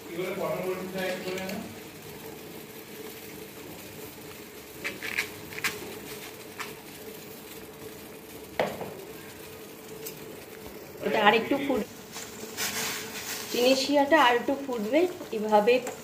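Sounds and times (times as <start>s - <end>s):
syrup boiling and bubbling: 0.0s - 16.0s.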